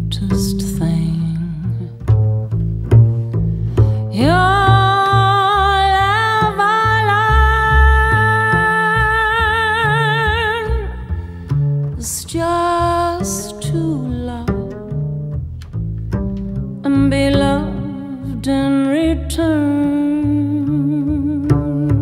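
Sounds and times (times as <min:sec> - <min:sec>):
plucked double bass: 0:00.0 - 0:22.0.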